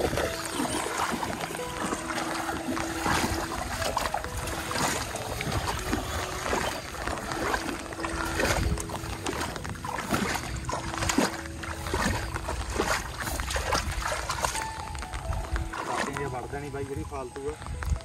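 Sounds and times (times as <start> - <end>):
basket dragged through water: 0.0 - 16.8
feet wading through muddy water: 0.0 - 18.0.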